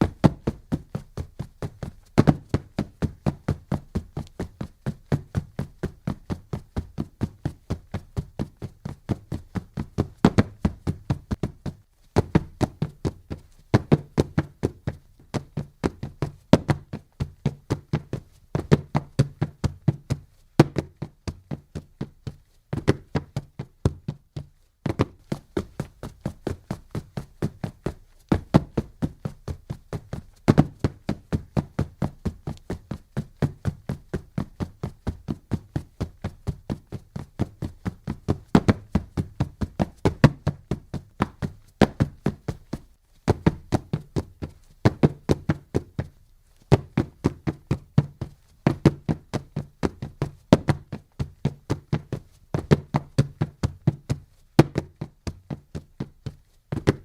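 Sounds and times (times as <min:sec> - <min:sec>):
running footsteps on a track: 0:00.0 - 0:57.0.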